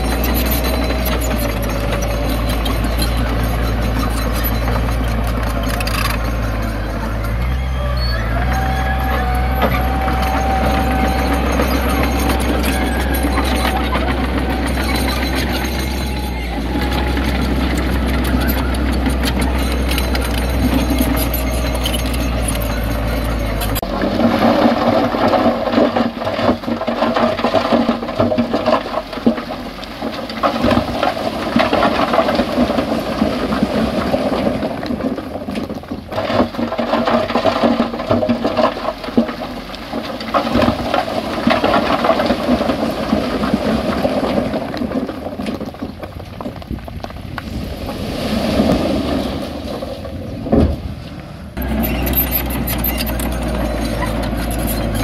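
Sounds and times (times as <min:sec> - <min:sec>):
stones pouring and clattering: 0:00.0 - 0:07.6, 0:08.4 - 0:50.9, 0:51.6 - 0:55.0.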